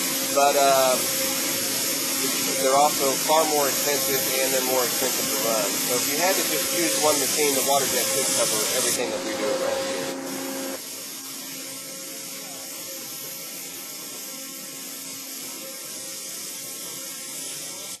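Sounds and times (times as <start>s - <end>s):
waterjet cutting hiss: 0.0s - 18.0s.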